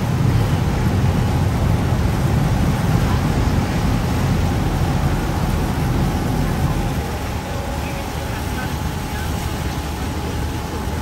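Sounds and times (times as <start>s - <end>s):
riverboat low rumble and rushing: 0.0s - 11.0s.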